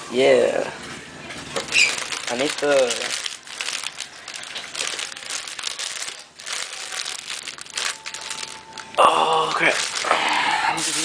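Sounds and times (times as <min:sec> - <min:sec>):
packaging crinkling and rustling: 0:01.5 - 0:11.0.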